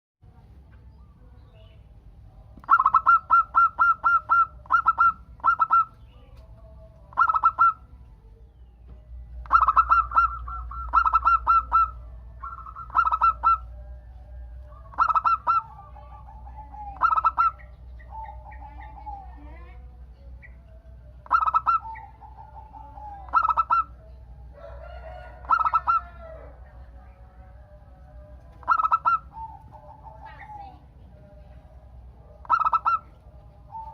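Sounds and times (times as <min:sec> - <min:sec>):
dove cooing: 0:02.6 - 0:06.5, 0:07.1 - 0:07.9, 0:09.4 - 0:33.9.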